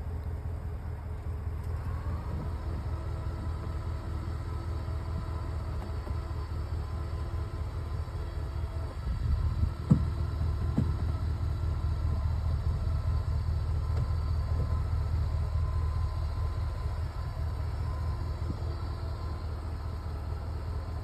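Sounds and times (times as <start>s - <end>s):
electric motor humming: 1.7s - 21.0s.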